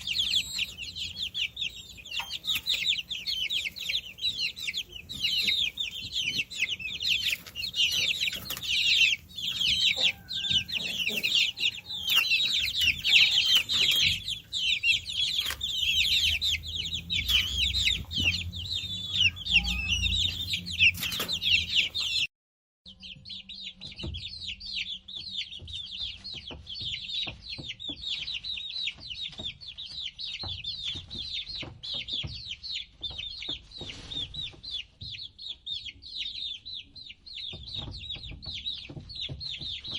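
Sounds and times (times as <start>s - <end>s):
chicks peeping: 0.0s - 22.3s, 22.9s - 39.9s.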